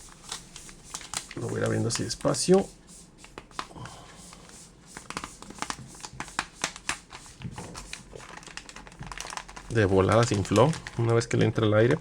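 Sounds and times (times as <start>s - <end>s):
plastic packaging crinkling: 0.0s - 2.7s, 3.3s - 12.0s.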